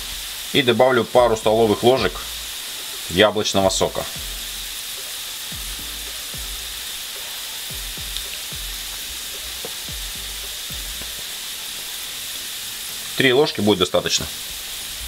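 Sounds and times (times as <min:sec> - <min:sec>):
livers sizzling in a pan: 0:00.0 - 0:15.0.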